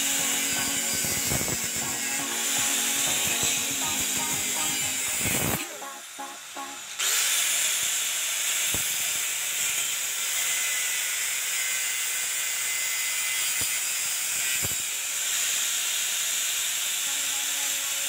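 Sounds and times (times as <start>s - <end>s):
power tool whirring: 0.0s - 6.2s, 6.8s - 18.0s.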